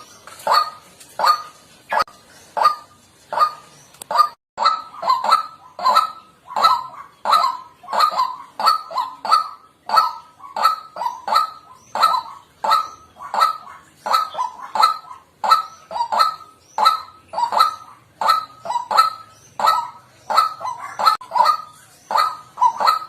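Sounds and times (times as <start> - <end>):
waterhen harsh honking calls: 2.6 - 23.0.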